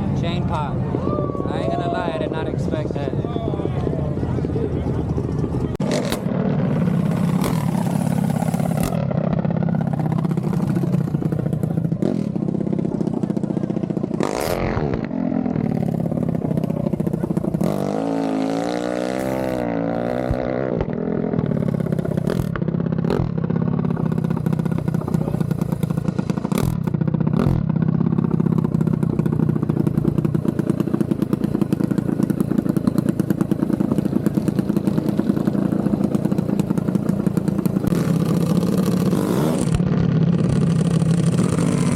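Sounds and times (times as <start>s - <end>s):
mini bike engine running: 4.8s - 41.9s.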